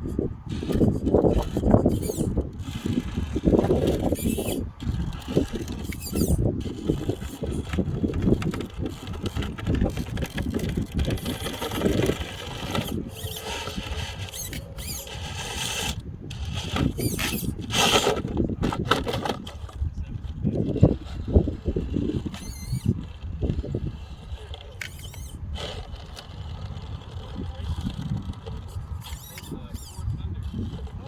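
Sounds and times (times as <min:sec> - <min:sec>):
toy truck motor whining: 0:00.0 - 0:31.0
wheels rumbling over rough ground: 0:00.0 - 0:31.0.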